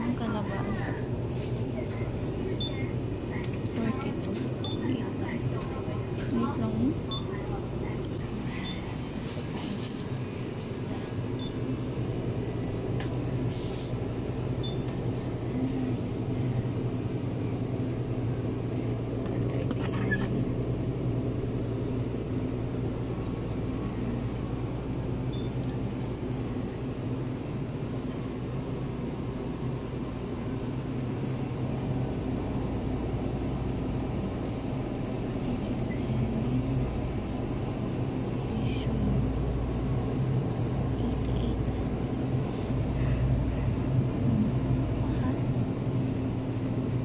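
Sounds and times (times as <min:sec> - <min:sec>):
refrigeration machine hum: 0:00.0 - 0:47.0.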